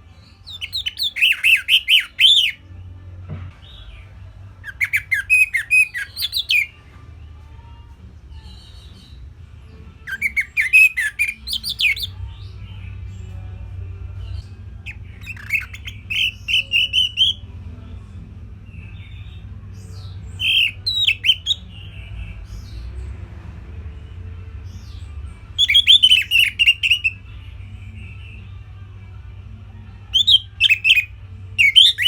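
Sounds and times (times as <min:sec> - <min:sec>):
thrush singing: 0:00.2 - 0:02.9, 0:03.6 - 0:32.0.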